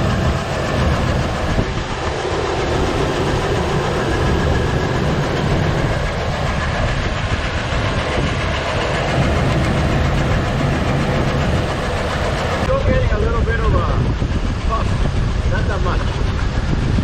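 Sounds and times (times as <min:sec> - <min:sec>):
engine clattering and knocking: 0:00.0 - 0:17.0.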